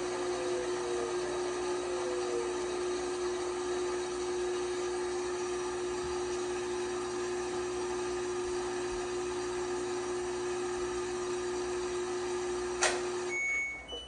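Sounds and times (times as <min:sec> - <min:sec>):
motor whine: 0:00.0 - 0:14.0
washing machine spinning: 0:00.0 - 0:14.0.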